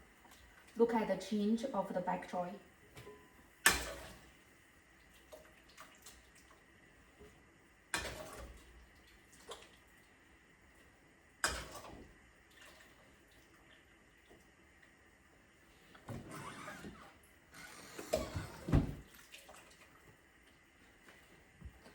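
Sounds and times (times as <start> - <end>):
water sloshing in a pot: 0.0 - 2.3, 3.6 - 16.1, 19.0 - 21.9.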